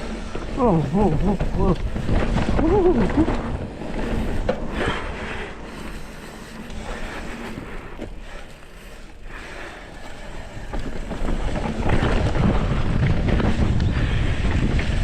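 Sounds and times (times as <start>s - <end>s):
wind buffeting microphone: 0.0s - 7.4s, 10.2s - 15.0s.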